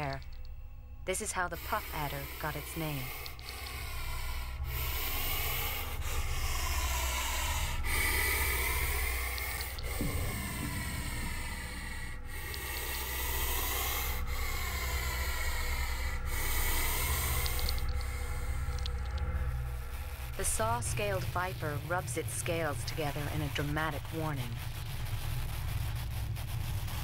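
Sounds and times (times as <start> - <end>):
snake hissing: 1.5 - 27.0.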